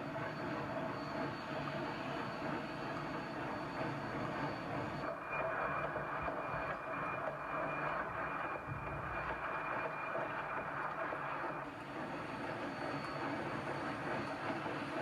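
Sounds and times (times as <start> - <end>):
steam locomotive wheels on rail: 0.0 - 15.0.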